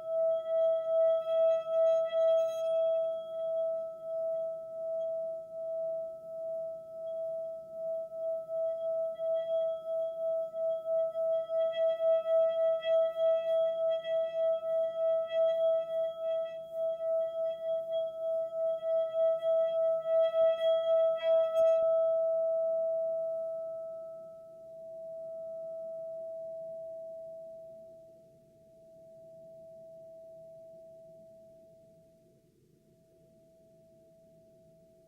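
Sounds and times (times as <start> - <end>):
singing bowl ringing tone: 0.0 - 32.4.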